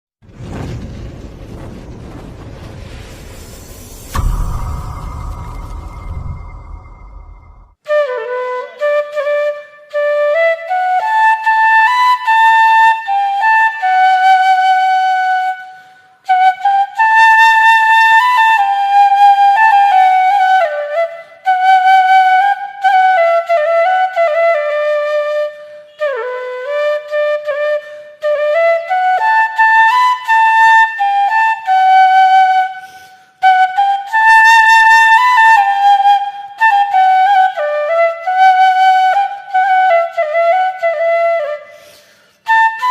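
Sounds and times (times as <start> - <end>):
solo flute melody: 4.0 - 42.9.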